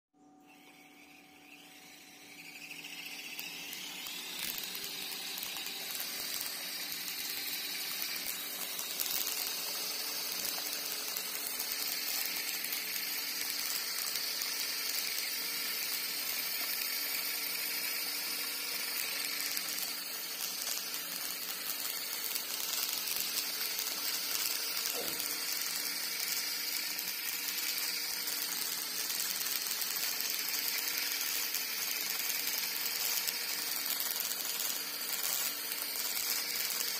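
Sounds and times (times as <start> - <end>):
toy electric motors whining: 0.2 - 36.9.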